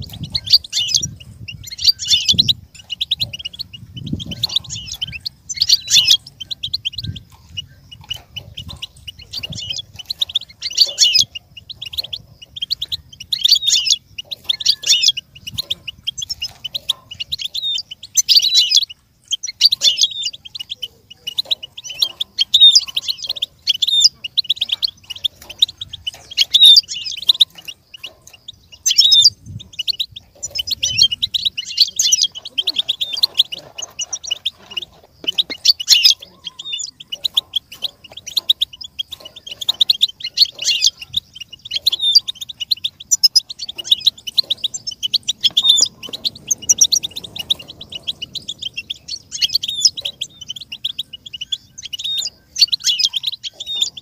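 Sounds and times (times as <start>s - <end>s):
goldfinch singing: 0.0s - 54.0s.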